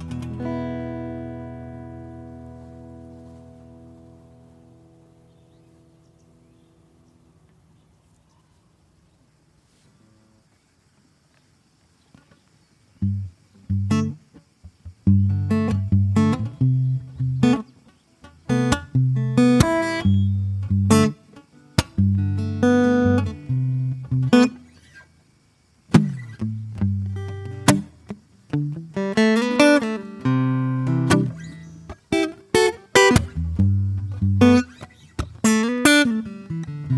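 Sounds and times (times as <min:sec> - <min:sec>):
solo acoustic guitar: 0:00.0 - 0:07.0, 0:12.3 - 0:36.9.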